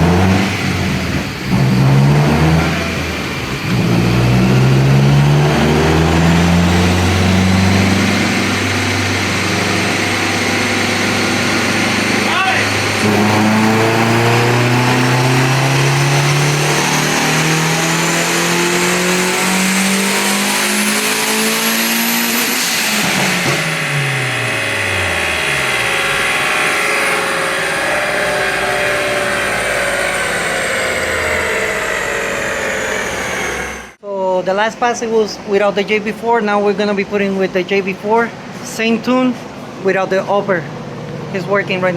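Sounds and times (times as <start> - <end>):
car engine revving at full throttle: 0.0 - 34.0
high whine: 0.0 - 34.0.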